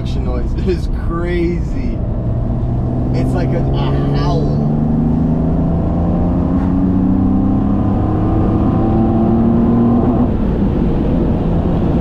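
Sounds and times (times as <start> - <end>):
engine induction howl accelerating: 0.0 - 12.0.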